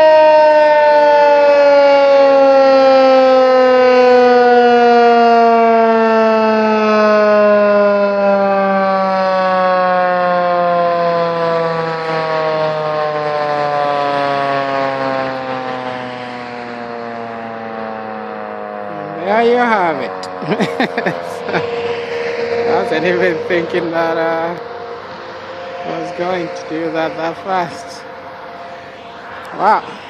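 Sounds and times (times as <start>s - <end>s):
tornado warning siren winding down: 0.0s - 30.0s.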